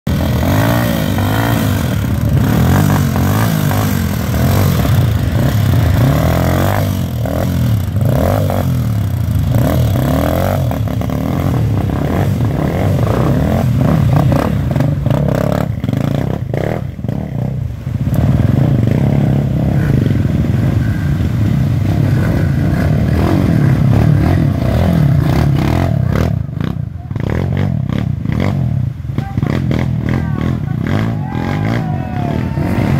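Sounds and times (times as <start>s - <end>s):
dirt bike engines revving: 0.1s - 32.9s.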